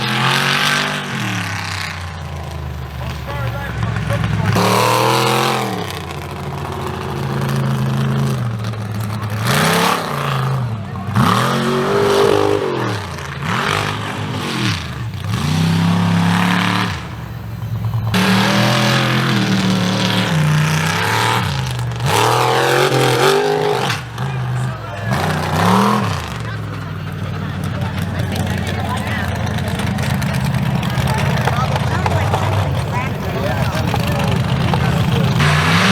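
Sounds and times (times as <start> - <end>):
truck engine revving hard: 0.0 - 35.9.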